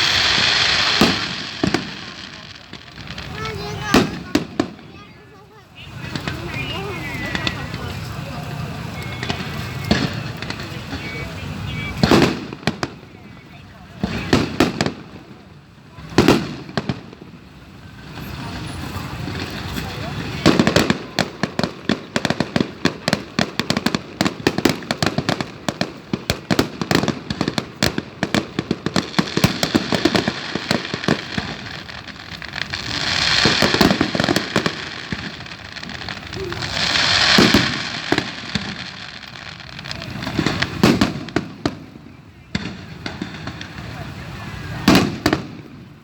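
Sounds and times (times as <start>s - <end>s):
fireworks bursting: 0.0s - 46.0s
fireworks hissing: 0.0s - 46.0s.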